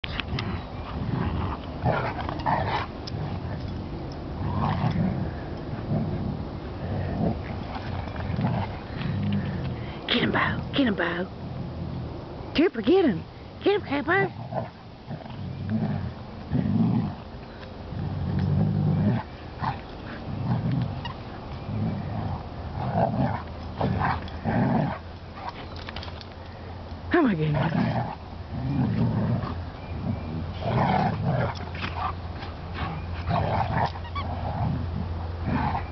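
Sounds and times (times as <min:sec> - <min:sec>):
dogs play-fighting: 0:00.0 - 0:12.2, 0:14.3 - 0:35.9.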